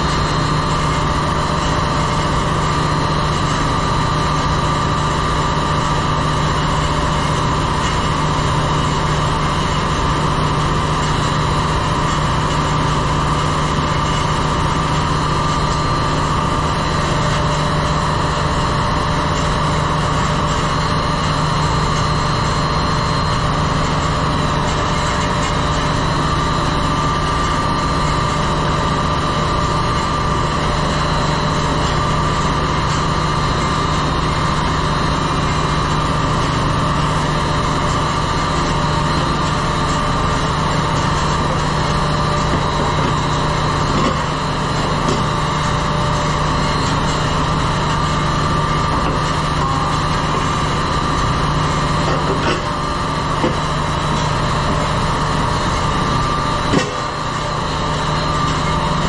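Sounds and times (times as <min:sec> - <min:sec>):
engine room machinery humming: 0:00.0 - 0:59.0
thin steady whine: 0:00.0 - 0:59.0.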